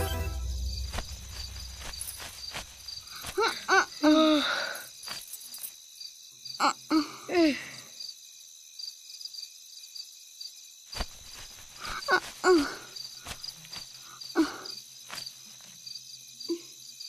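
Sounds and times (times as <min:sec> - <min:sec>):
crickets chirping: 0:00.1 - 0:17.0.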